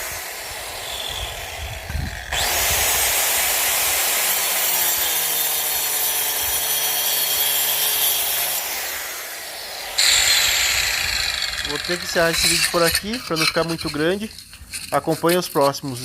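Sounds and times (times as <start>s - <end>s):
power tool cutting: 0.0s - 14.0s.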